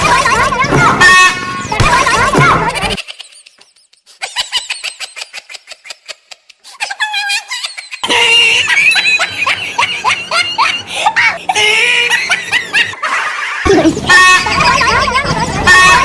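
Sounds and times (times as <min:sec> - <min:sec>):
people laughing and shrieking: 0:00.0 - 0:16.0.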